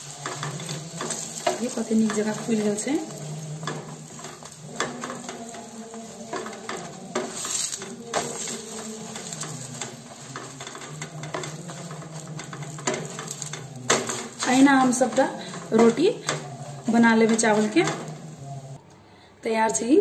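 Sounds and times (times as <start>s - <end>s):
flatbread sizzling in oil: 0.0s - 18.8s
wooden spatula scraping pan: 0.0s - 18.8s.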